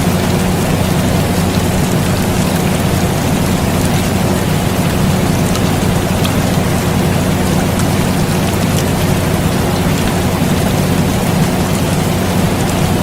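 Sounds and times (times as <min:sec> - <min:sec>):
air conditioner hum: 0:00.0 - 0:13.0
steady rain: 0:00.0 - 0:13.0.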